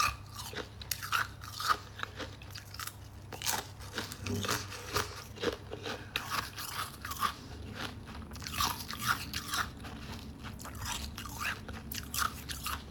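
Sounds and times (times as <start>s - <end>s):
frost being chewed: 0.0s - 12.9s.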